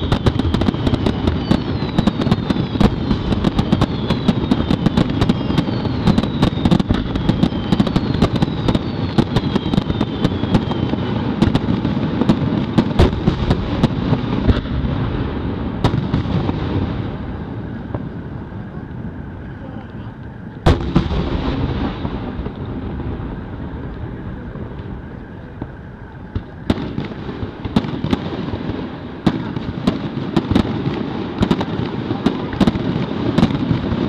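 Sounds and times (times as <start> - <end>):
continuous rumble: 0.0 - 34.0
fireworks bangs and crackles: 0.0 - 34.0
fireworks whistles falling in pitch: 0.0 - 34.0.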